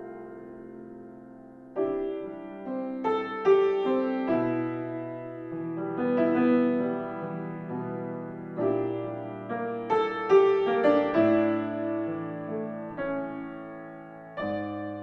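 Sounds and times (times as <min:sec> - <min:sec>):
slow gentle piano piece: 0:00.0 - 0:15.0.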